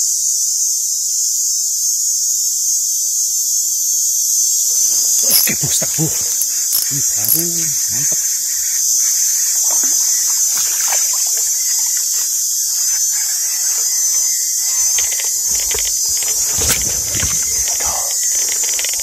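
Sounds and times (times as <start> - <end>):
chorus of forest insects: 0.0 - 19.0.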